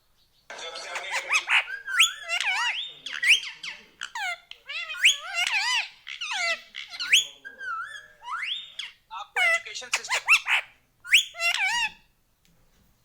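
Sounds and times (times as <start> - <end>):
parrot chattering squeaky calls: 0.8 - 12.1.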